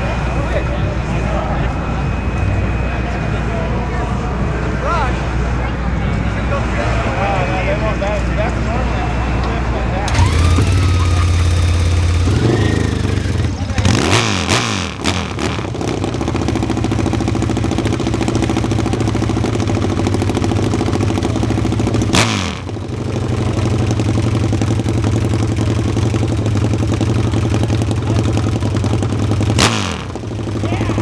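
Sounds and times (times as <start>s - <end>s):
motorcycle engine running: 0.0s - 6.8s, 7.6s - 31.0s.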